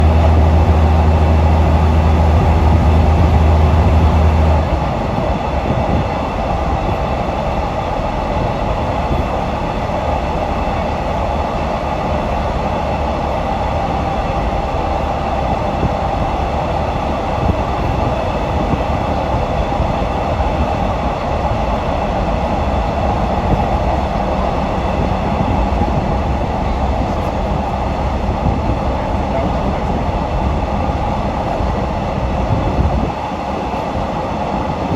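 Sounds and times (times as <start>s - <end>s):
loud low hum: 0.0s - 33.1s
train wheels rumbling on track: 0.0s - 34.9s.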